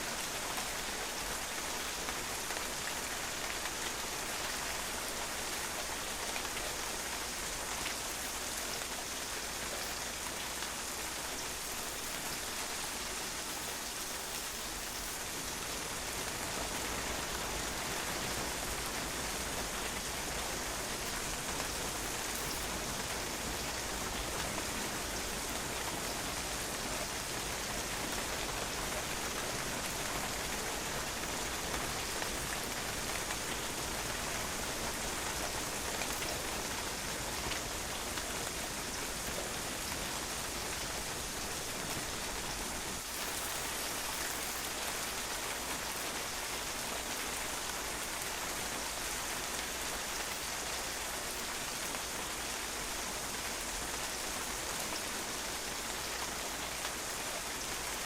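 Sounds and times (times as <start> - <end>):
steady rain hiss: 0.0 - 58.0
raindrops pattering on patio: 0.2 - 58.0.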